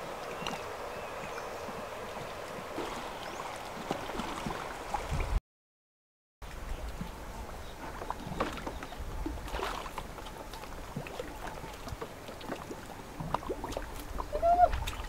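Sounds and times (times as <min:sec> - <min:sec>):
water splashing and dripping: 0:00.0 - 0:05.4, 0:06.4 - 0:15.0.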